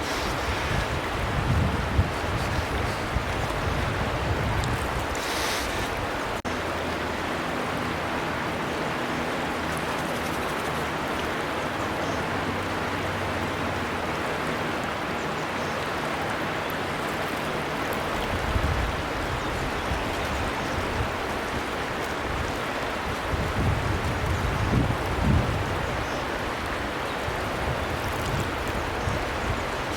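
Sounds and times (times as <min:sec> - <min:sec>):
river water rushing: 0:00.0 - 0:29.9.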